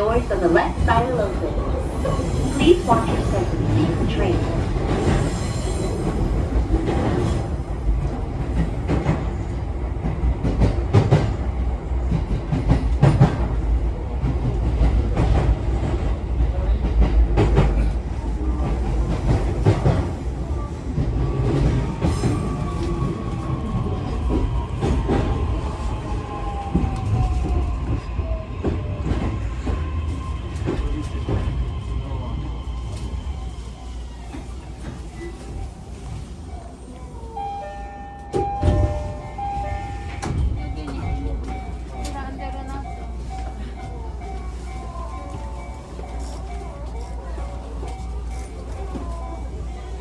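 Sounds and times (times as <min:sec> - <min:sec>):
train rumble: 0:00.0 - 0:50.0.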